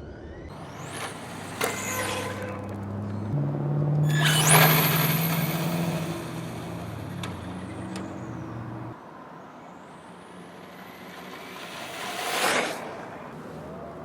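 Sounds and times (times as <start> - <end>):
rc car motor whining: 0.5 - 9.0, 10.0 - 14.0.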